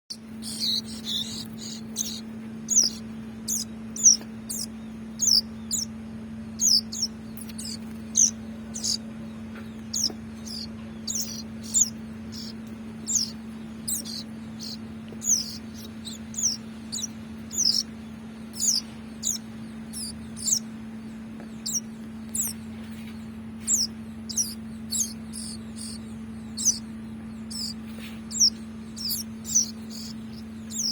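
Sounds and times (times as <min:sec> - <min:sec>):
bird chick begging chirps: 0:00.1 - 0:30.9
steady low hum: 0:00.1 - 0:30.9.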